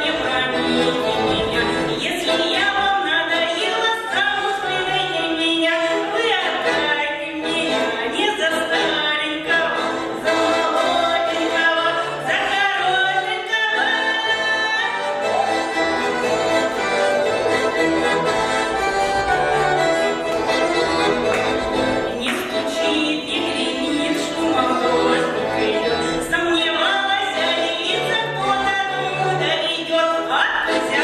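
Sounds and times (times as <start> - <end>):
folk dance song sung: 0.0 - 31.0
instrumental accompaniment: 0.0 - 31.0.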